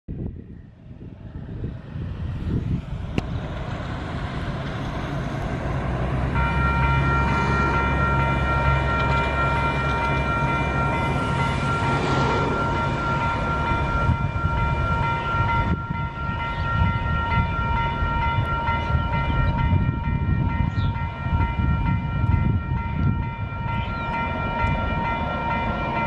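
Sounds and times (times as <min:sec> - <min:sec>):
locomotive engine rumble: 0:00.8 - 0:26.0.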